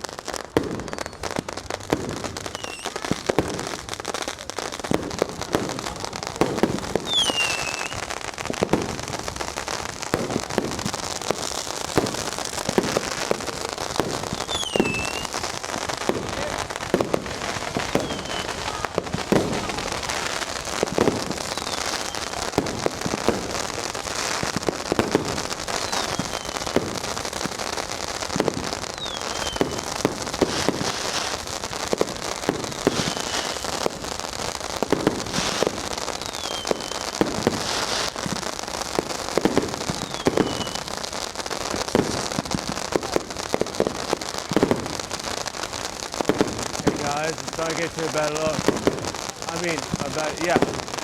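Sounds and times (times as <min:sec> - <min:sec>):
firecrackers crackling: 0:00.0 - 0:51.0
loud firework bangs: 0:00.0 - 0:51.0
falling firework whistle: 0:00.1 - 0:51.0.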